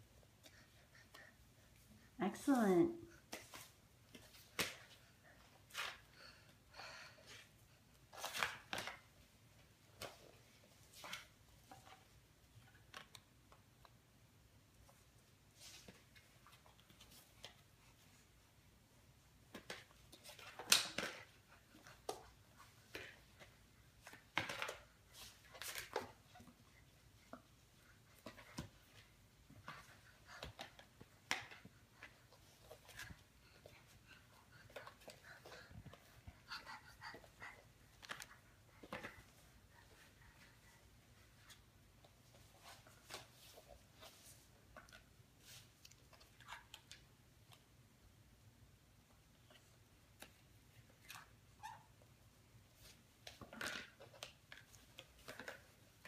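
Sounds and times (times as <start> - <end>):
cardboard puzzle pieces on wooden floor: 0.0 - 56.0.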